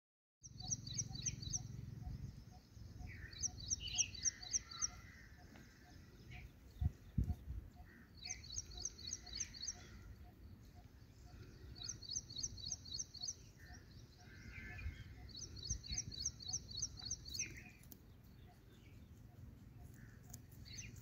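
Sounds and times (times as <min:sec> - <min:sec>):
soft bird calls: 0:00.4 - 0:21.0
songbird singing high chirps: 0:00.4 - 0:21.0.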